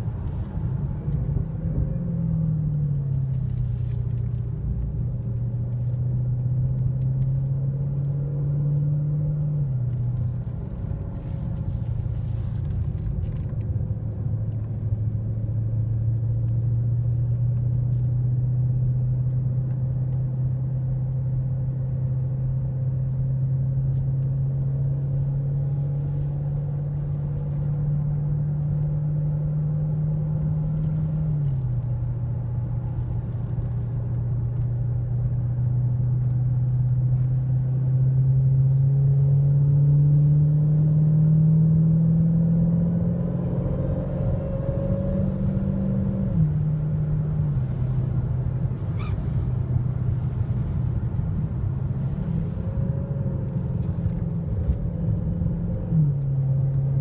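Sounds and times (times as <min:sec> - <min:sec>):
car engine droning inside cabin: 0:00.0 - 0:57.0.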